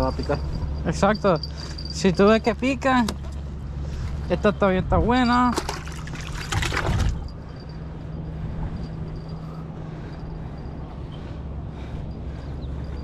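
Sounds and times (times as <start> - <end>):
low steady hum: 0.0 - 13.0
wind rumble on microphone: 0.0 - 13.0.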